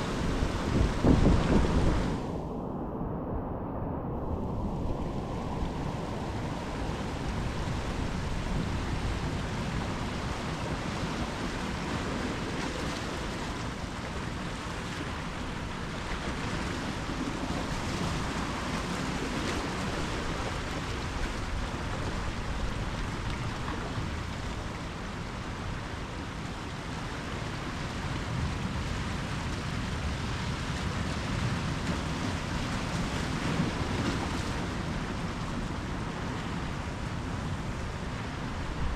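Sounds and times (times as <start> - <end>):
ocean surf rushing: 0.0 - 38.9.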